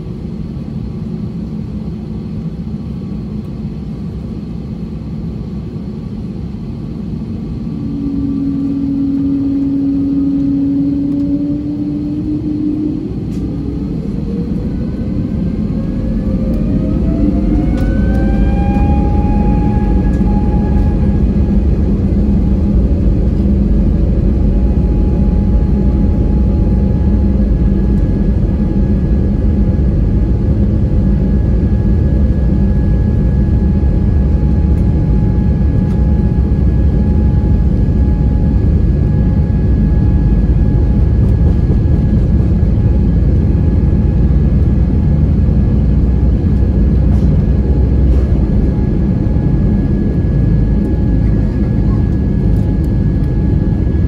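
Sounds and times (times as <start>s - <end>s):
jet engines and runway rumble: 0.0s - 54.0s
steady engine whine: 0.0s - 54.0s.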